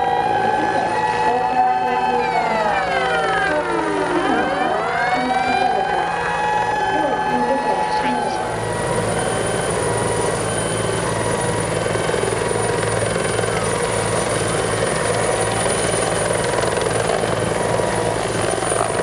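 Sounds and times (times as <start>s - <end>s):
helicopter rotor hovering: 0.0s - 19.0s
high-pitched turbine whine: 0.0s - 19.0s.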